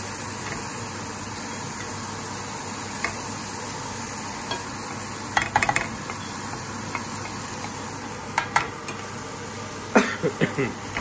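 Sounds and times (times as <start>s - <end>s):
stir-fry sizzling in pan: 0.0s - 11.0s.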